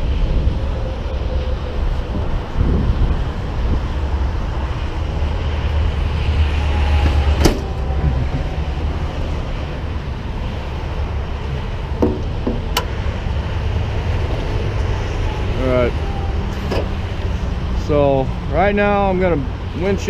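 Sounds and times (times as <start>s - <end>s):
idling engines and freeway traffic: 0.0s - 20.0s.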